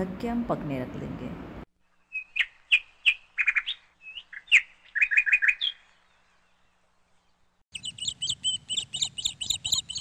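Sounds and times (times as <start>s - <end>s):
small birds chirping: 1.8s - 10.0s.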